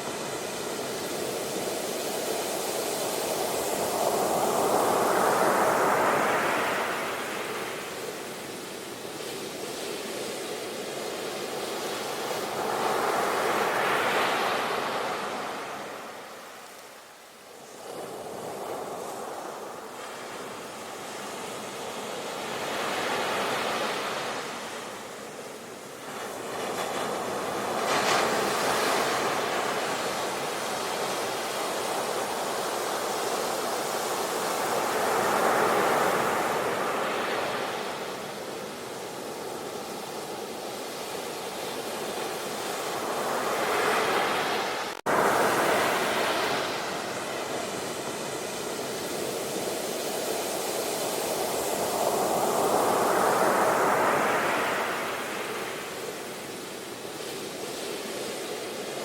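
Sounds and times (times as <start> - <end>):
ocean surf washing: 0.0 - 59.0.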